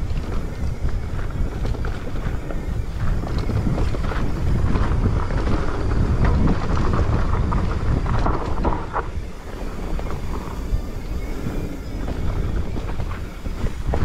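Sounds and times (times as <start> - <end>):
bike rattles and clicks: 0.0 - 14.0
wind buffeting microphone: 0.0 - 14.0.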